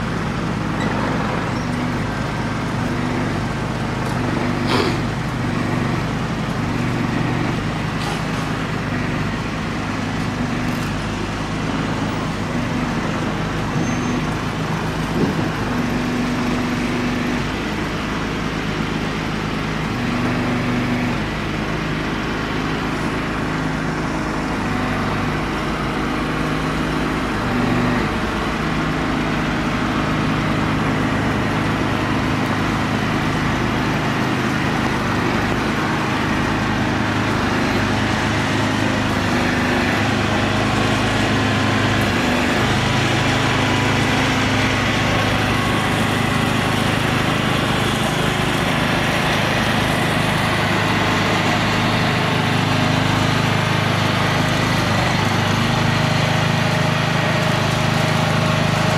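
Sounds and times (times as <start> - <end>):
truck diesel engine running: 0.0 - 58.9.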